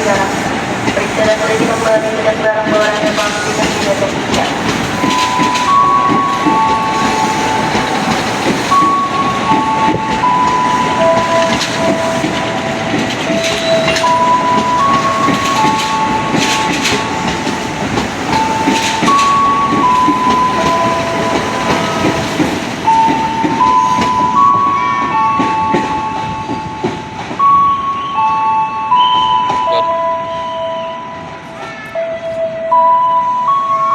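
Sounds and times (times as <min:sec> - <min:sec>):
train wheels clattering on rails: 0:00.0 - 0:27.8.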